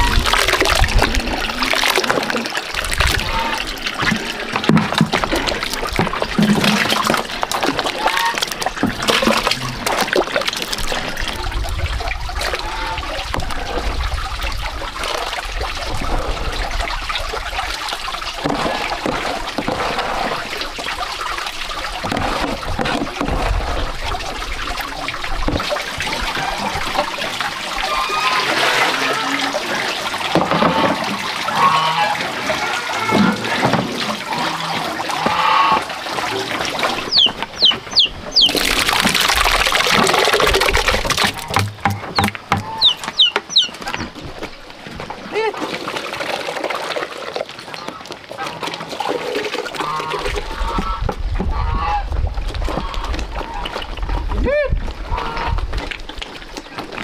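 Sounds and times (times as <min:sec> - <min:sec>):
splashing in basin: 0:00.0 - 0:51.0
water running into buckets: 0:00.0 - 0:57.0.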